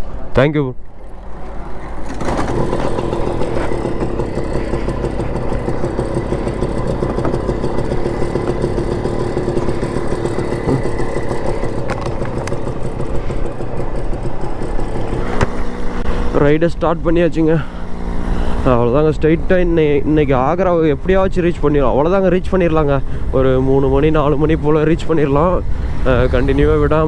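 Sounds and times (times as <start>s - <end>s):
road rumble: 0.0s - 27.0s
wind: 0.0s - 27.0s
moped engine running: 0.9s - 27.0s.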